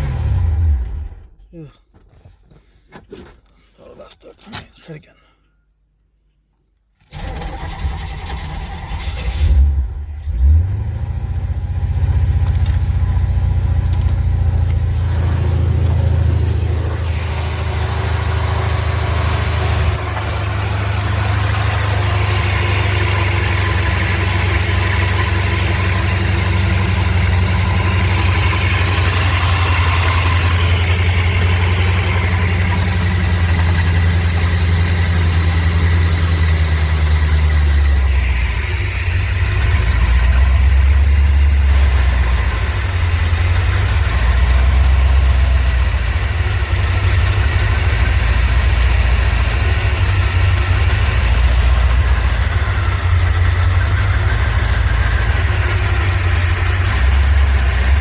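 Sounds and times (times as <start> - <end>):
car engine idling: 7.1 - 58.0.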